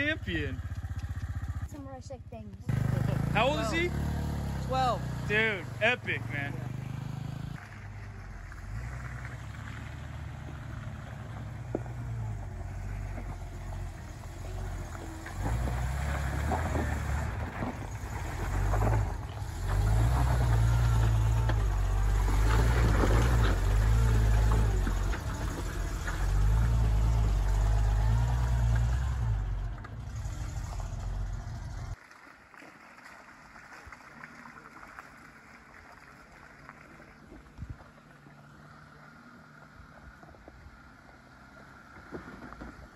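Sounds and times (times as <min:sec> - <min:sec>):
off-road vehicle engine rumbling: 0:00.0 - 0:32.0, 0:34.6 - 0:42.9.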